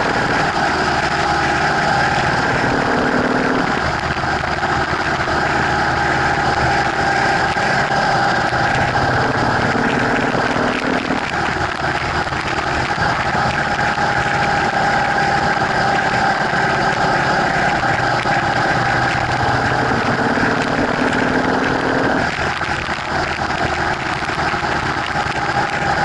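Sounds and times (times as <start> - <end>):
lower engine tone: 0.0 - 26.0
motorcycle engine running: 0.0 - 26.0
wind and road noise: 0.0 - 26.0.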